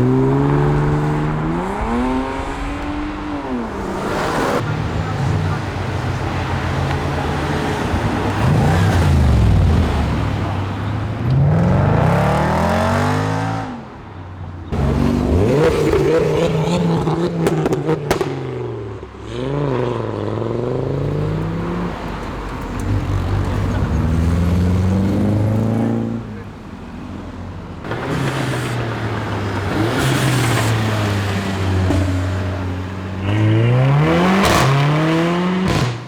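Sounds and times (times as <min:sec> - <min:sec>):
car engines revving and accelerating: 0:00.0 - 0:36.0.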